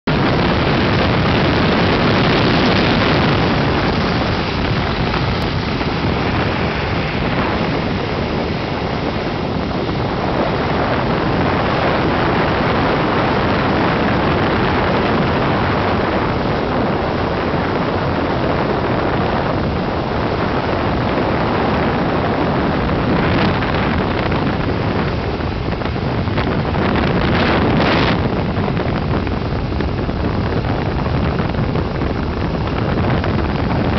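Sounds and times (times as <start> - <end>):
boiler rushing roar: 0.0 - 33.9.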